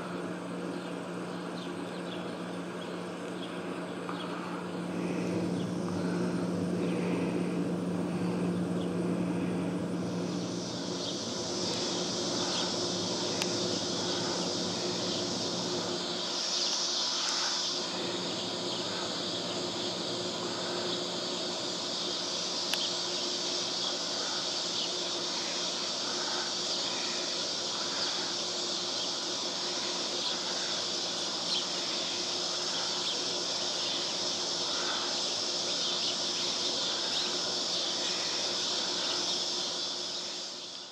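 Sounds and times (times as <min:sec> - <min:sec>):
high insect drone: 0:00.0 - 0:40.9
steady low hum: 0:00.0 - 0:40.9.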